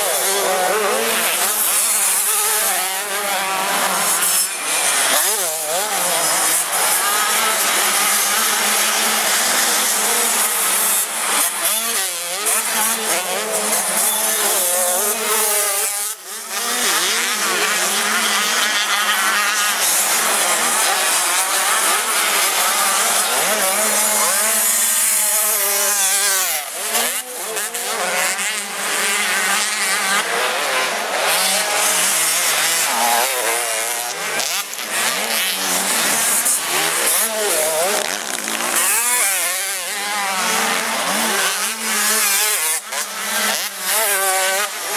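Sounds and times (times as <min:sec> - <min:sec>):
two-stroke motocross bikes revving: 0:00.0 - 0:44.9.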